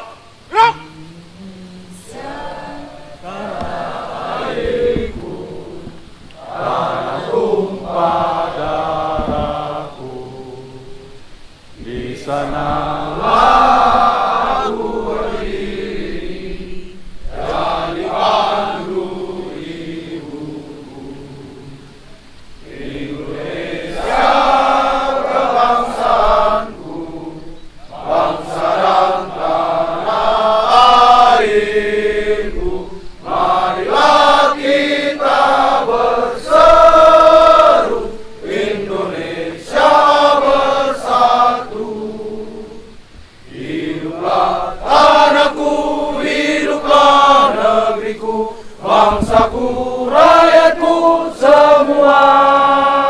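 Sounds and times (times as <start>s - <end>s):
group of voices singing: 0.0s - 53.0s.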